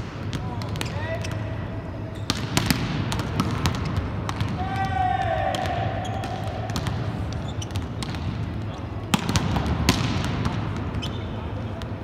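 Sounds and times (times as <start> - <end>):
low rumble of a large hall: 0.0 - 12.0
volleyballs smacking the floor: 2.2 - 12.0.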